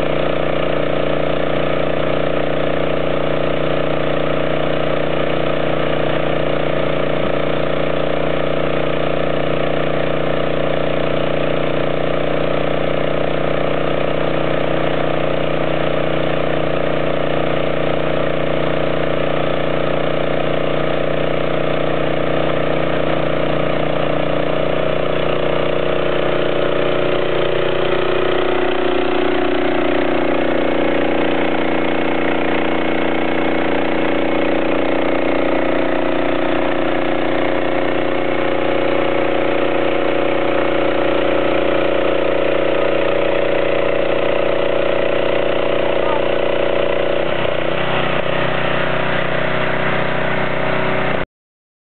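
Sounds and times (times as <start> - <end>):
engine running steadily: 0.0 - 51.2.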